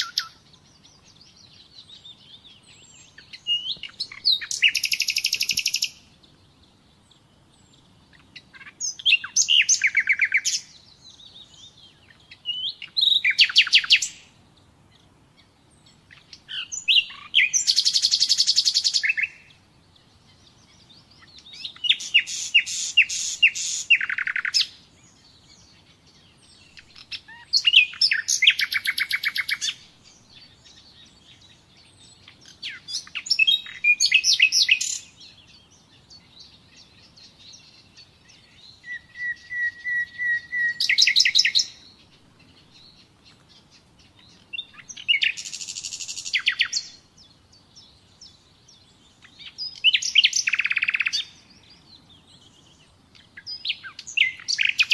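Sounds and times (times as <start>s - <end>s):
nightingale singing trills: 0.0s - 54.9s.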